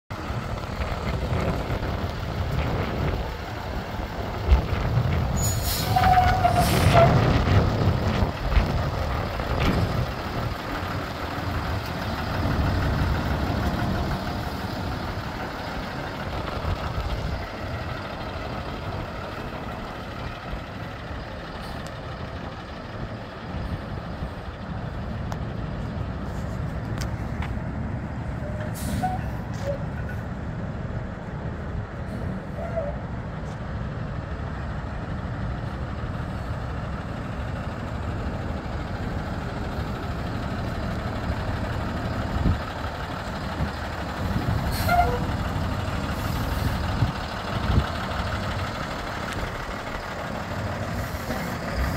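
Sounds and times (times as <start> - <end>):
truck engine rumbling: 0.1 - 51.9.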